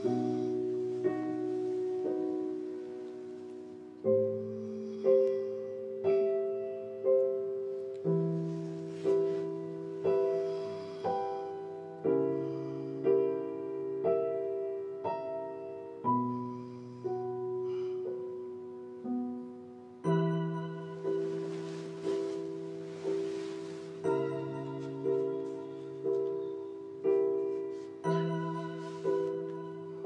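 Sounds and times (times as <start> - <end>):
slow soft piano music: 0.0 - 30.0.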